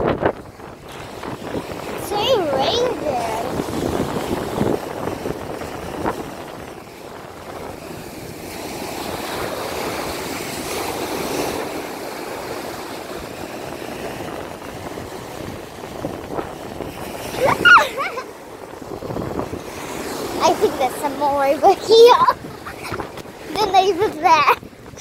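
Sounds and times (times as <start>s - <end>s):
sea waves washing onto beach: 0.0s - 25.0s
wind on the microphone: 0.0s - 25.0s.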